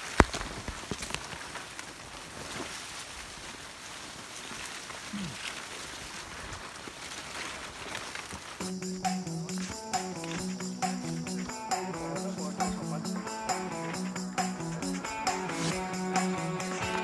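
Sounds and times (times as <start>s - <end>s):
forest rustling hiss: 0.0s - 17.0s.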